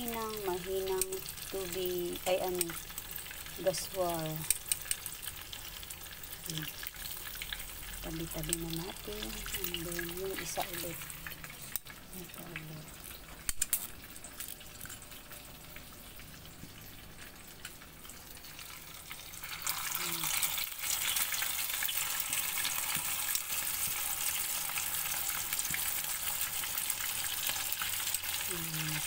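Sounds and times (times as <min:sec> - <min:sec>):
fish deep-frying in hot oil: 0:00.0 - 0:29.0.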